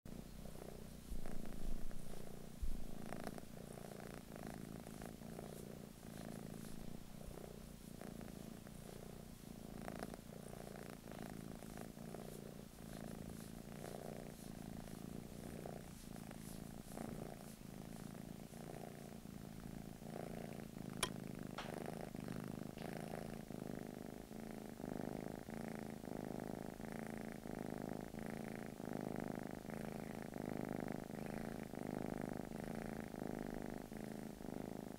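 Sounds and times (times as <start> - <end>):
cat purring: 0.1 - 34.9.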